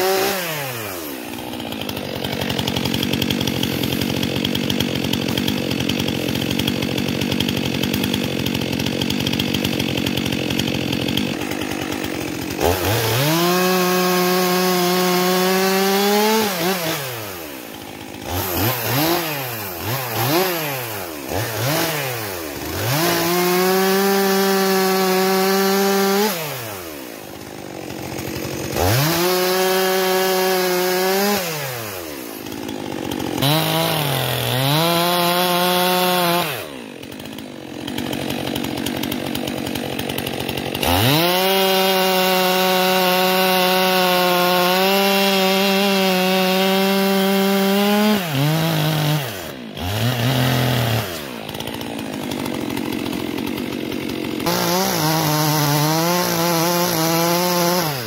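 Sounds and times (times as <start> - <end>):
chainsaw cutting firewood: 0.0 - 58.0.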